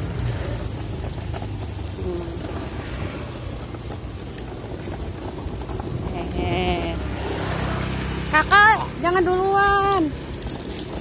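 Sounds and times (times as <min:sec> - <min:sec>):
plastic wheels rolling on concrete: 0:00.0 - 0:11.0.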